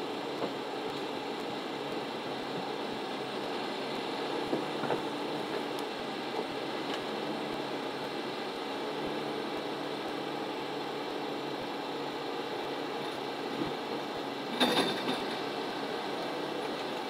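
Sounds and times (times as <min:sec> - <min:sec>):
forestry machine engine running: 0:00.0 - 0:17.0.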